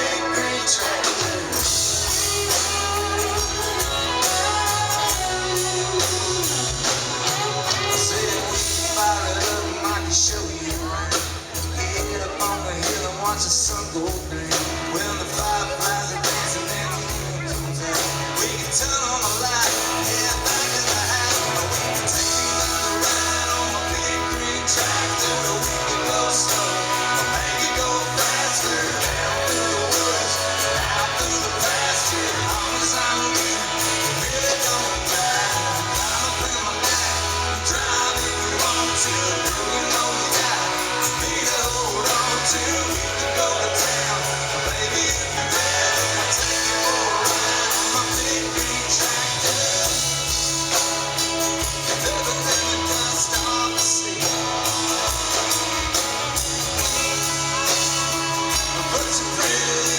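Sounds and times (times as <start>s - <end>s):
country band music: 0.0s - 59.9s.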